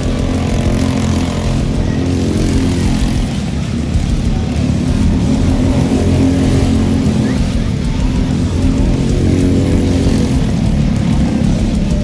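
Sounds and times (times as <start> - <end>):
racing kart engine: 0.0 - 12.0.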